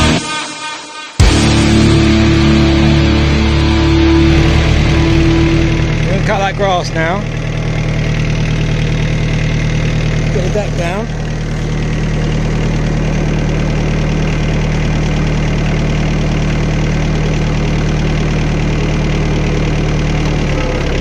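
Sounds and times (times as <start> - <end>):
tractor engine idling: 1.2 - 21.0.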